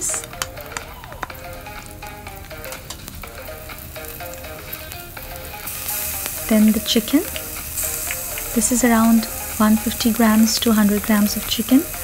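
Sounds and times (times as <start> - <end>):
small ticks and crackles: 0.0 - 12.0
vegetables sizzling in oil: 0.0 - 12.0.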